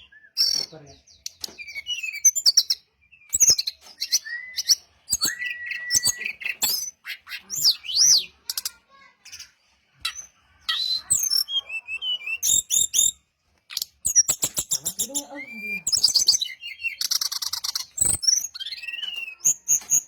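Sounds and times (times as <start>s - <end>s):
bird singing whistled phrases: 0.0s - 8.3s, 10.1s - 20.0s.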